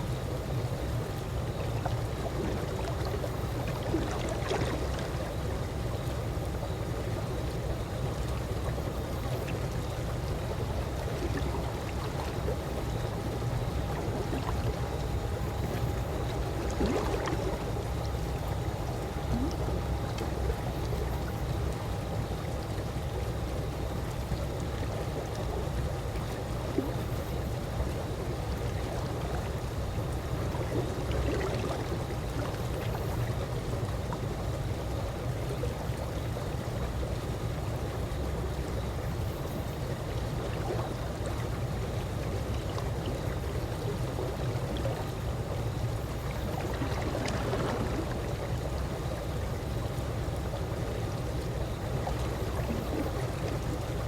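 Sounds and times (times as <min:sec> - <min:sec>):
pool water washing gently: 0:00.0 - 0:54.0
small water splashes and trickles: 0:00.0 - 0:54.0.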